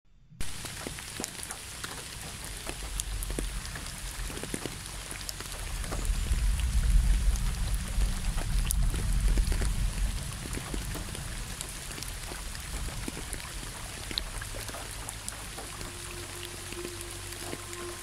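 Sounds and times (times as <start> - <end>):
rain drops striking close by: 0.4 - 18.0
steady rain: 0.4 - 18.0
distant thunder rumble: 2.2 - 18.0.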